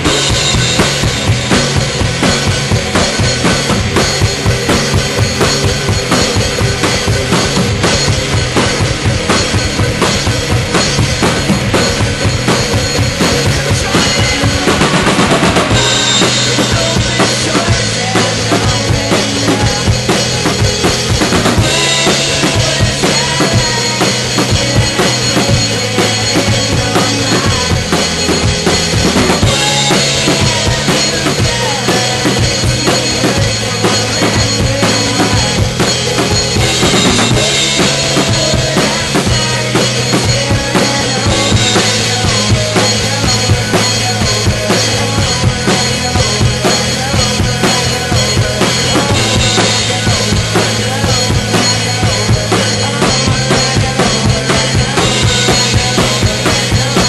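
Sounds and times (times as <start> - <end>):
alternative rock song: 0.0 - 57.0
rock drum kit playing: 0.0 - 57.0.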